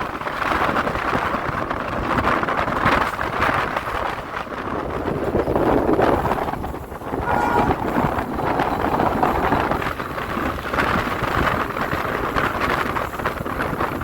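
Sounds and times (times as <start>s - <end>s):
train rumbling: 0.0s - 14.0s
wind buffeting microphone: 0.0s - 14.0s.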